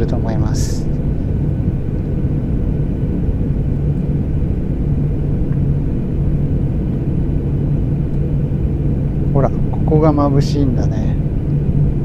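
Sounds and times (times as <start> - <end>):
constant low hum: 0.0 - 12.0
jet engines rumbling overhead: 0.0 - 12.0.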